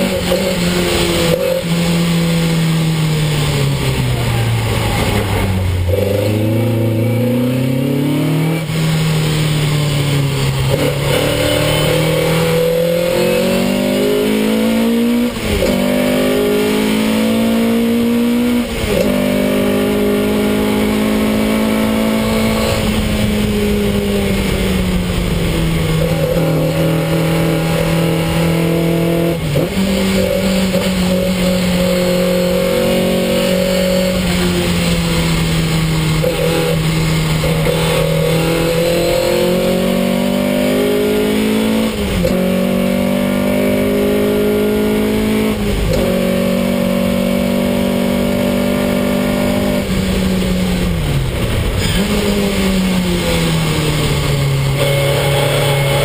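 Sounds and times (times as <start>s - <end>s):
race car engine under hard load: 0.0s - 56.0s.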